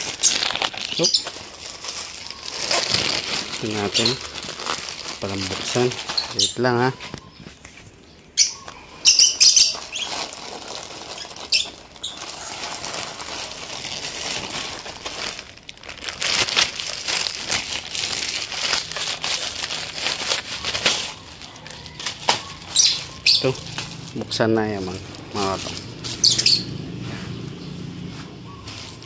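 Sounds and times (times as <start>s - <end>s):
plastic mailer tearing and crinkling: 0.0s - 6.6s, 9.5s - 26.6s, 28.6s - 29.0s.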